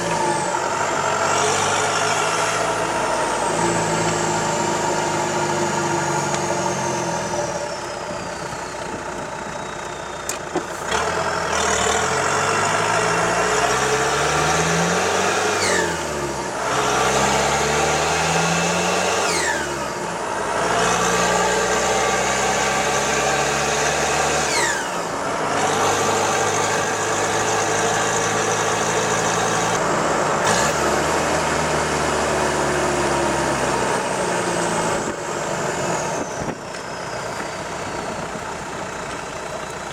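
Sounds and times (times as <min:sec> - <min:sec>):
diesel engine accelerating: 0:00.0 - 0:39.9.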